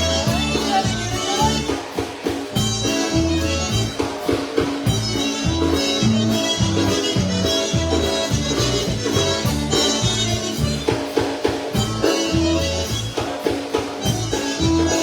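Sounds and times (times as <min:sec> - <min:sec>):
drum kit beat: 0:00.0 - 0:15.0
polka band playing: 0:00.0 - 0:15.0.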